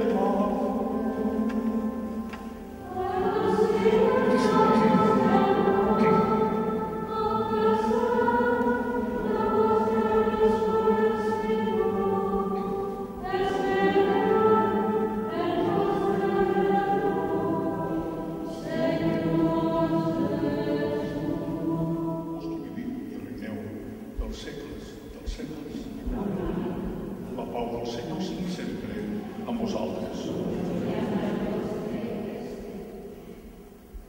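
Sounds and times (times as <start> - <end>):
choir singing a chant: 0.0 - 34.0.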